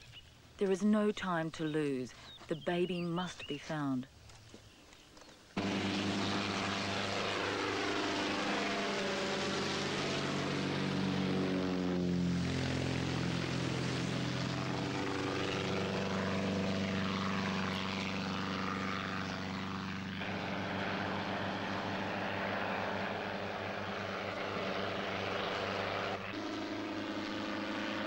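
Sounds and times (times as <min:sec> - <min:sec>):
propeller aircraft engine drone: 0:04.4 - 0:28.0.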